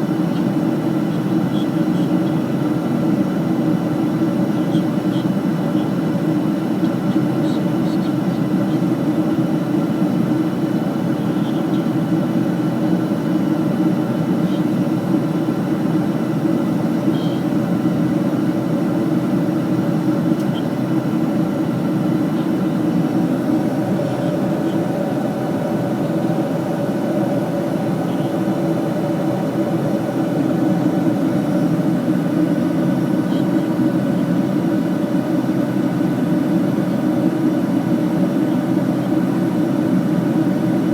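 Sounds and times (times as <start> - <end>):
airliner cabin drone: 0.0 - 40.9.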